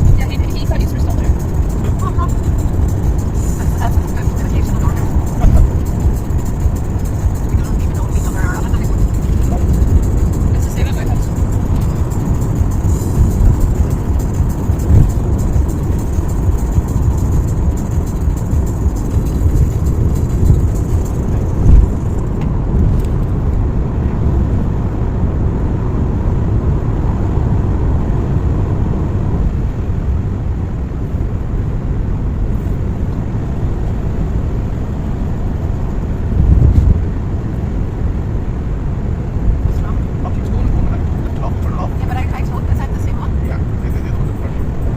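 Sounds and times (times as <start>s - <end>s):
car road and engine noise: 0.0s - 44.9s.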